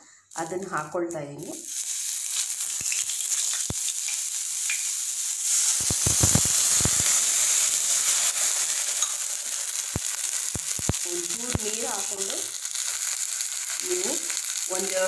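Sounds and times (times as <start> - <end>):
oil sizzling in a pan: 1.4 - 15.0
water hissing in hot pan: 1.4 - 15.0.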